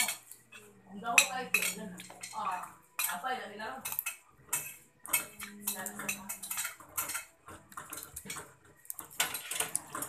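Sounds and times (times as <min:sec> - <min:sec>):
cutlery clinking on plates: 0:00.0 - 0:03.2, 0:03.8 - 0:10.0.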